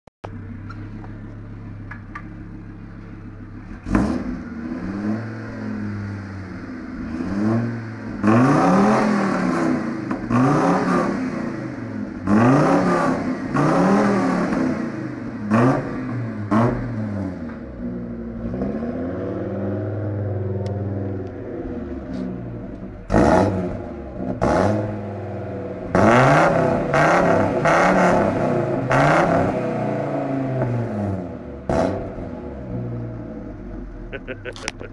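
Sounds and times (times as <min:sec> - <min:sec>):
engine idling and revving: 0:00.2 - 0:34.9
exhaust crack: 0:00.2 - 0:34.9.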